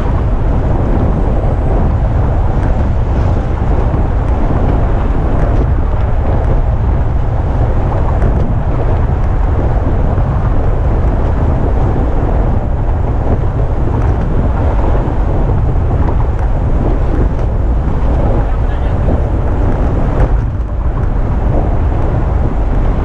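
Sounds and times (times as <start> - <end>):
road traffic rumble: 0.0 - 23.0
wind noise on microphone: 0.0 - 23.0.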